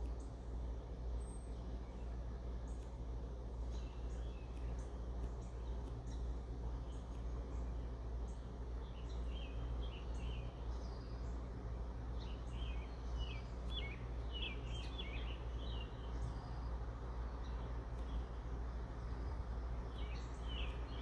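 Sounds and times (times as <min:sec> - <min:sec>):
low background rumble: 0:00.0 - 0:21.0
small birds twittering: 0:00.0 - 0:21.0.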